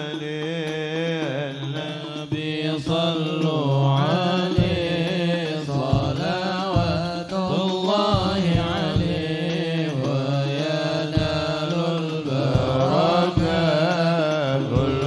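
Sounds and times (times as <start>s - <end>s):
voices singing devotional melody: 0.0s - 15.0s.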